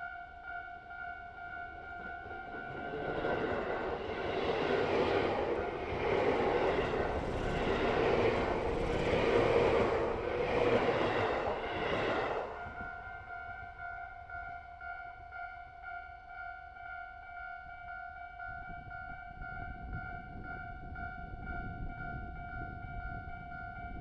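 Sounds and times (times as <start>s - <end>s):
electric train rumbling past: 0.0s - 15.8s, 17.3s - 24.0s
level crossing warning bell: 0.0s - 24.0s.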